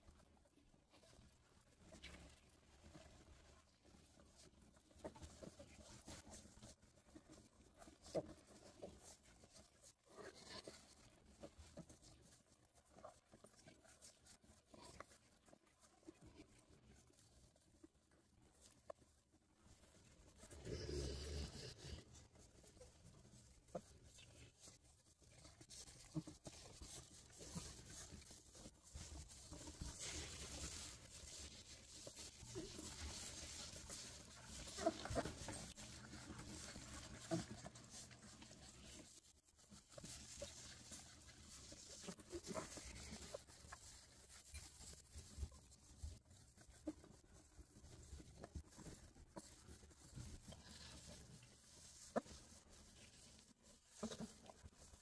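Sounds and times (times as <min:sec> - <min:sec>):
rustling in wood shavings: 0:00.9 - 0:55.0.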